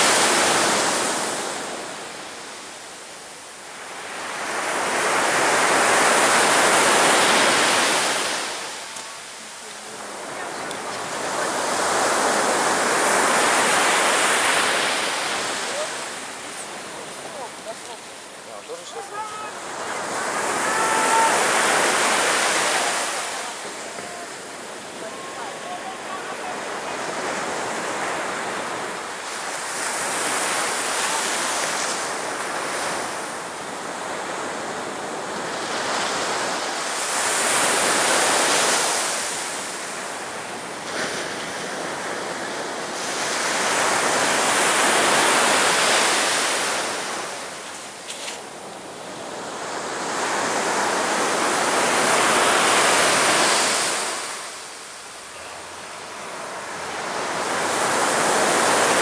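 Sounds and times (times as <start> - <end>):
sea waves breaking on beach: 0.0 - 59.0.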